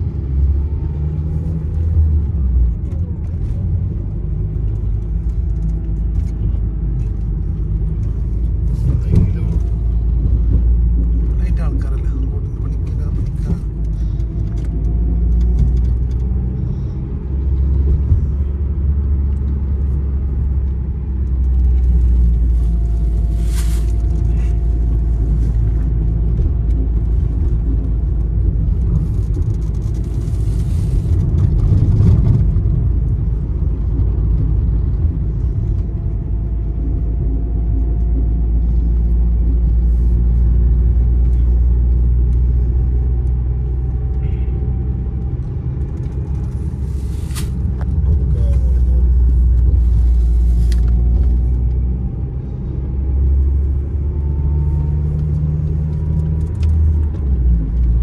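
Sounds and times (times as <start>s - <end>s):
car engine rumble: 0.0s - 58.0s
tyres on road: 0.0s - 58.0s.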